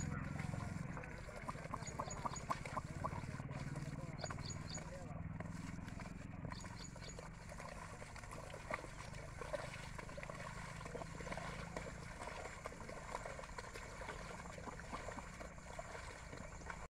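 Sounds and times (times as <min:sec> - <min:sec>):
low hum: 0:00.0 - 0:16.9
splashing through mud and water: 0:00.0 - 0:16.9.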